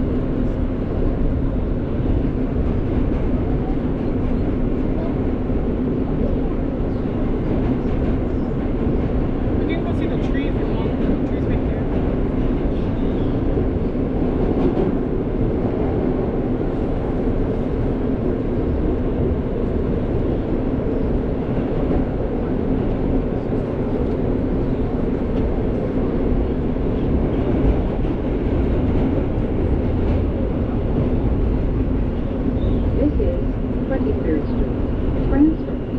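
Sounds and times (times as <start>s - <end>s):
subway train rumble and rail noise: 0.0s - 35.9s.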